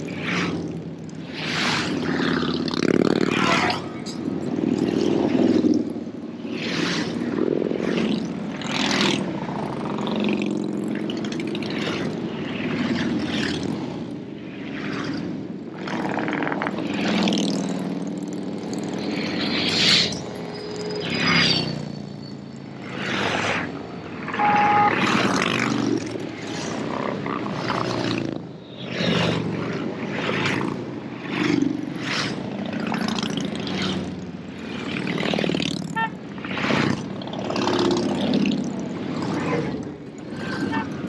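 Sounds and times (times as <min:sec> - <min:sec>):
motorcycles passing by: 0:00.0 - 0:41.0.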